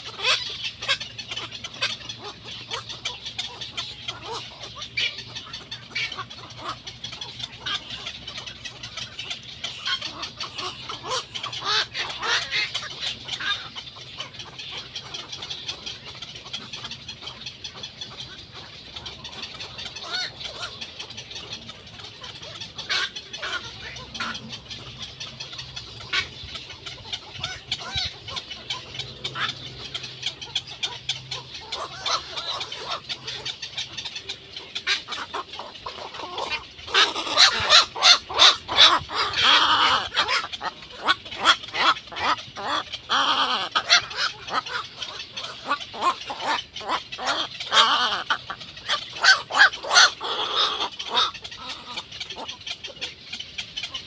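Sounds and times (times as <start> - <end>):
chicks chattering begging calls: 0.0 - 54.0.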